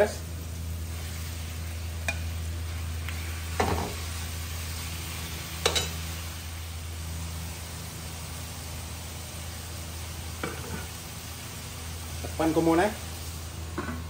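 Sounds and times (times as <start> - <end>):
chicken sizzling in hot oil: 0.0 - 14.0
steady low hum: 0.0 - 14.0.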